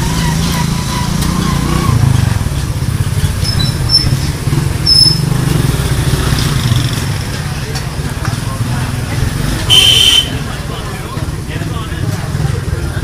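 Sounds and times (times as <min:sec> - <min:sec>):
busy market street rumble: 0:00.0 - 0:13.0.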